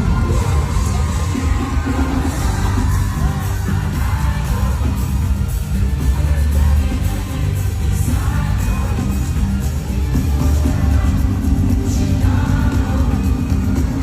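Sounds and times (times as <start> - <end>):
concert music over sound system: 0.0 - 14.0
crowd noise: 0.0 - 14.0
heavy bass beat: 0.0 - 14.0
person singing: 0.0 - 14.0.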